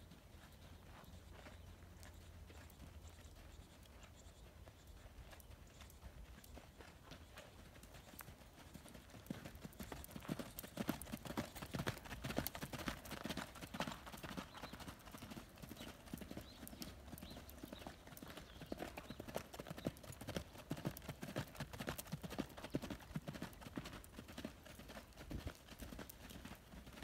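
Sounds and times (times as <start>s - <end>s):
horse hoofbeats on sand: 0.0s - 27.0s.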